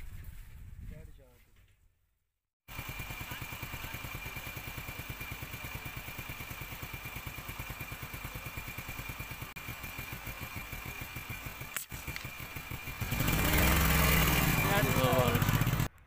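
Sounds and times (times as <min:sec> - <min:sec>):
engine idling: 0:02.7 - 0:15.9.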